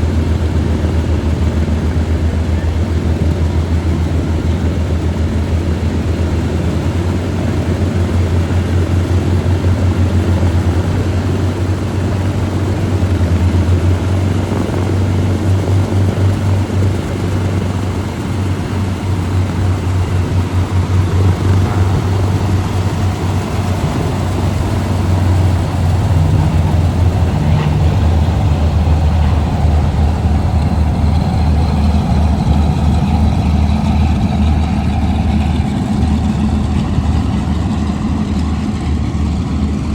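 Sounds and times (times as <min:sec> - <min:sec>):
aircraft piston engines droning: 0:00.0 - 0:39.9.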